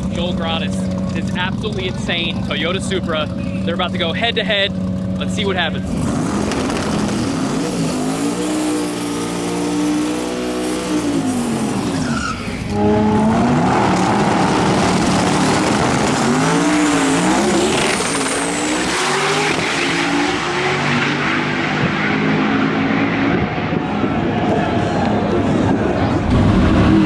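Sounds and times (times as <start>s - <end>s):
racing car engines revving: 0.0s - 27.0s.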